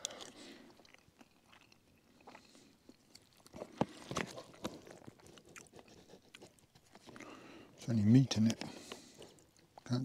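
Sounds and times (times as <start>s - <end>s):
person chewing: 0.0s - 7.6s, 8.6s - 10.0s.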